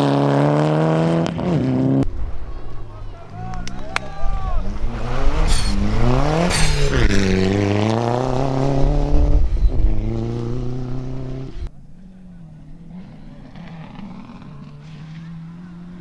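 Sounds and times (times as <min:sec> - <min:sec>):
rally car engine passing at speed: 0:00.0 - 0:03.0, 0:03.6 - 0:16.0.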